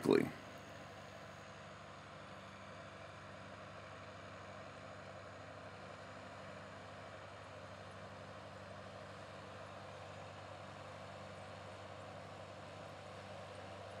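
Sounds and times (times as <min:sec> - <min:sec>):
faint tractor engine running: 0:00.0 - 0:14.0.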